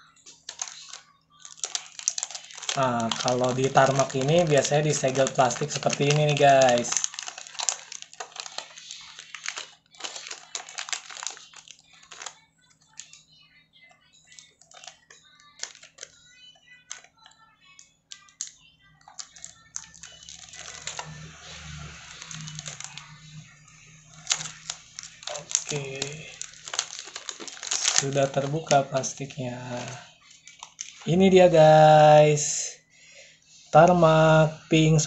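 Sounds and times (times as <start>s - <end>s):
plastic wrap crackling: 0.0s - 32.3s.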